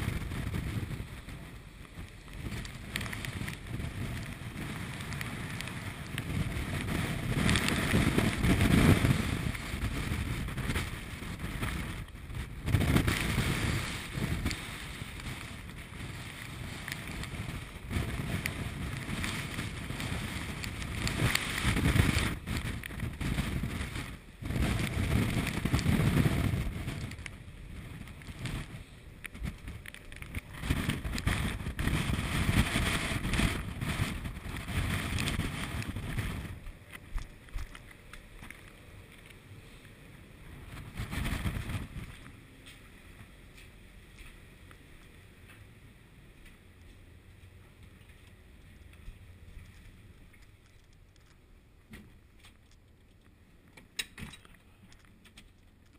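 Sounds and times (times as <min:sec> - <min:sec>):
heavy seas breaking along hull: 0:00.0 - 0:55.9
wind buffeting microphone: 0:00.0 - 0:55.9.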